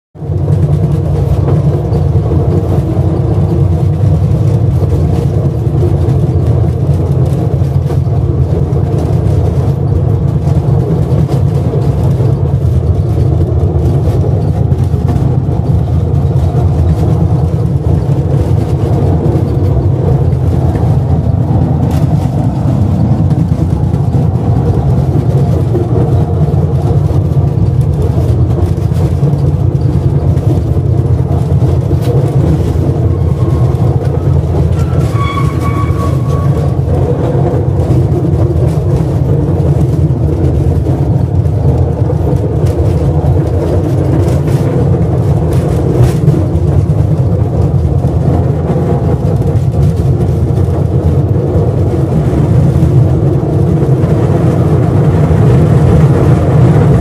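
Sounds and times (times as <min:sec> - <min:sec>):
train rumbling through tunnel: 0:00.2 - 0:57.0.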